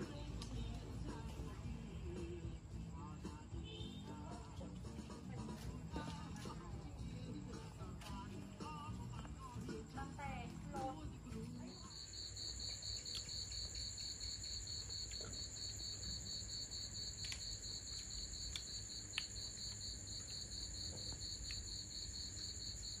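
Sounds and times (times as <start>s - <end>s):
continuous high insect trill: 0.0s - 23.0s
crickets chirping: 0.0s - 23.0s.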